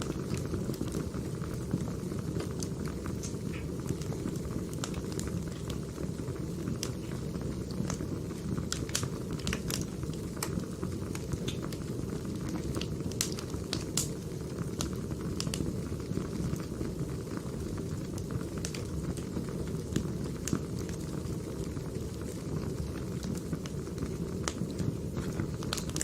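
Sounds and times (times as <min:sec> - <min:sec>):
burning logs rumbling: 0:00.0 - 0:26.0
fire crackles and pops: 0:00.0 - 0:26.0.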